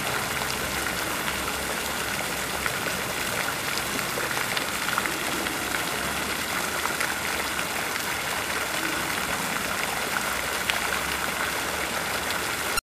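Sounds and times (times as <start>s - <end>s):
fountain water splashing: 0.0s - 12.8s.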